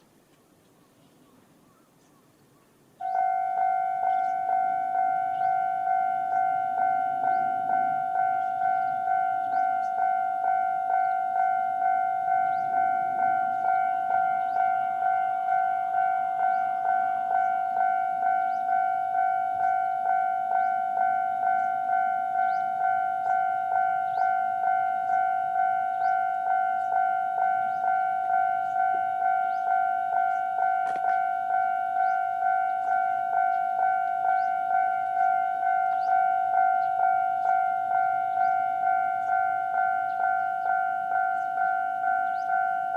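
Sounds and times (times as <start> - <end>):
level-crossing electronic bell: 3.0 - 42.9.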